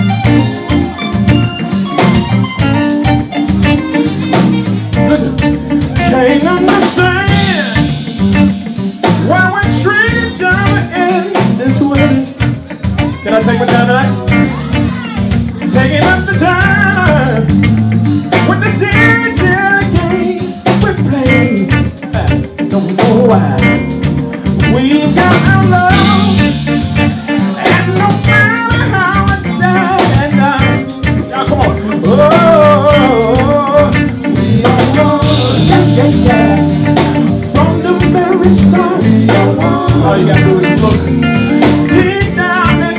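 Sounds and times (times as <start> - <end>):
person singing: 0.0 - 8.3, 9.0 - 17.6, 18.3 - 42.9
live band playing: 0.0 - 42.9.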